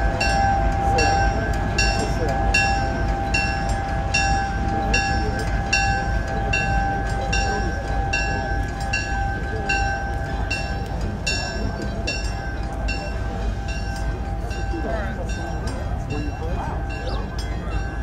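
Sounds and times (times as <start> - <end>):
railroad bell ringing: 0.0 - 18.0.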